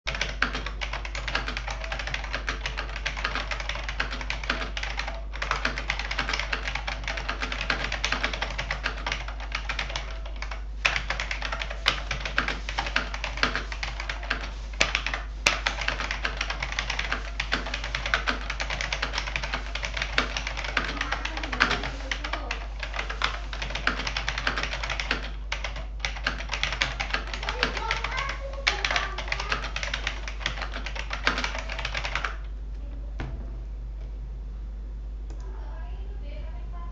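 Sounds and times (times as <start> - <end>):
keyboard typing clacks: 0.1 - 32.5.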